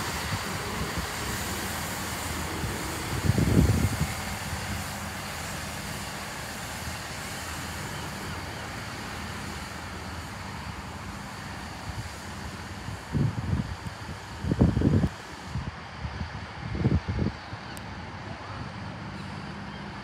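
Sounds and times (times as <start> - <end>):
diesel train engine rumble: 0.0 - 20.0
station noise hiss: 0.0 - 20.0.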